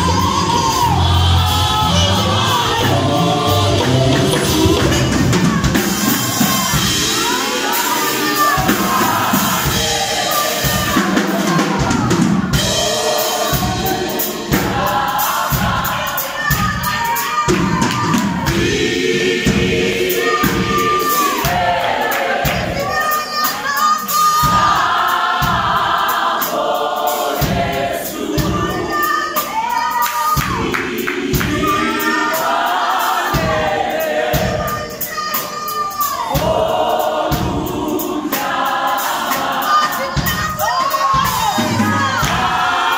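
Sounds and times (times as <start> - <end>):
drums keeping a steady beat: 0.0 - 42.9
group of singers singing: 0.0 - 42.9.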